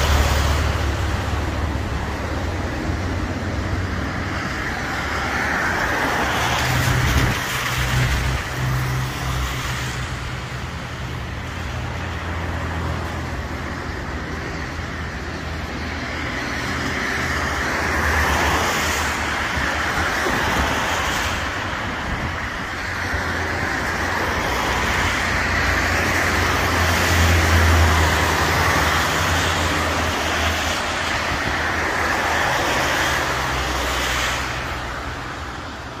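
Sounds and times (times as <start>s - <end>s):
tyres on wet asphalt: 0.0s - 36.0s.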